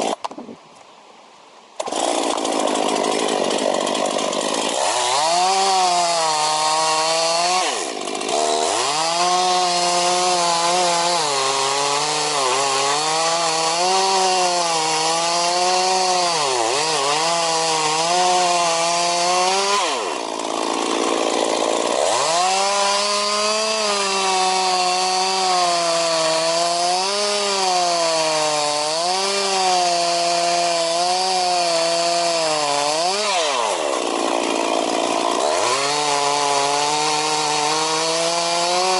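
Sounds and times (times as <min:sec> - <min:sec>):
chainsaw cutting wood: 0:00.0 - 0:00.5, 0:01.8 - 0:38.9.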